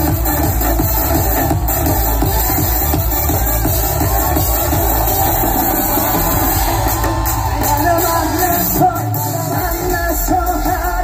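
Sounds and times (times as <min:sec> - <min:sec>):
live concert music over pa: 0:00.0 - 0:11.0
person singing: 0:00.0 - 0:11.0.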